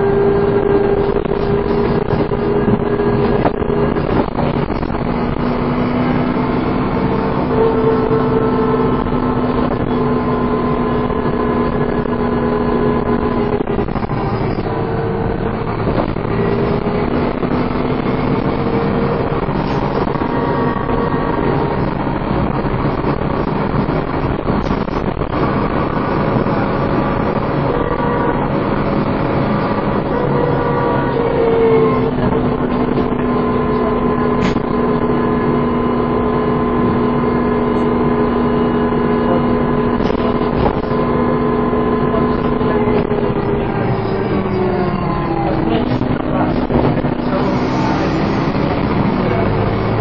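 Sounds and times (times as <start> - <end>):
bus drivetrain whine: 0.0 - 50.0
bus engine noise: 0.0 - 50.0.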